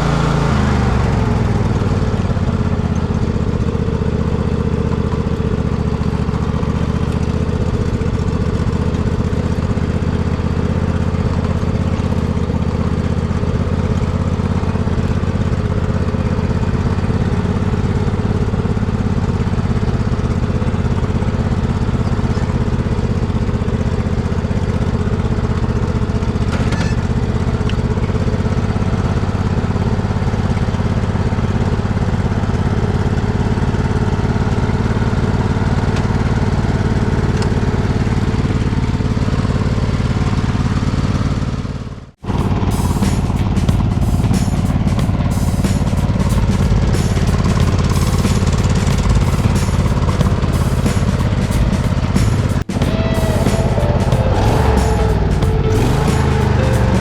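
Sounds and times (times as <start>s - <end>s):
mower engine running steadily: 0.0s - 57.0s.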